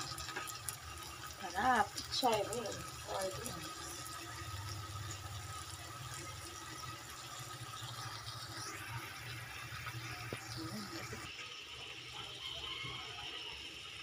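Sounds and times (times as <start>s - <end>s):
liquid simmering in a pan: 0.0s - 14.0s.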